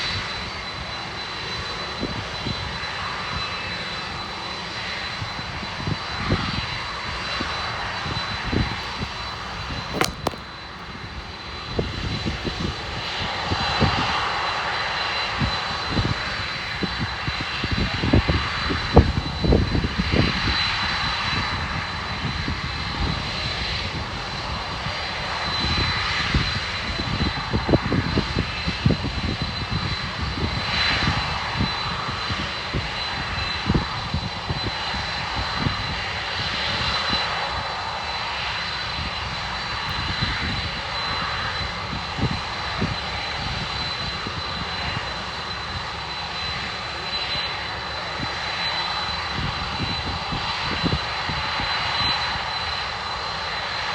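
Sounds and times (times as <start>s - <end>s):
jet engines running: 0.0s - 53.9s
wind buffeting microphone: 5.2s - 14.3s, 15.3s - 37.2s, 38.8s - 47.4s, 48.1s - 52.4s.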